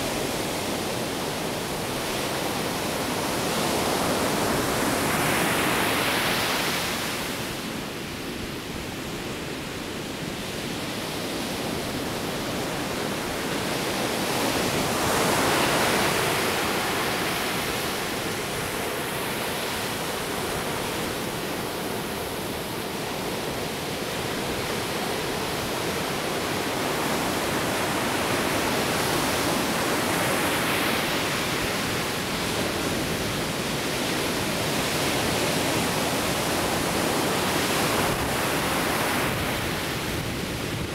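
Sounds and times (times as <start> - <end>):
ocean surf breaking on beach: 0.0 - 40.9.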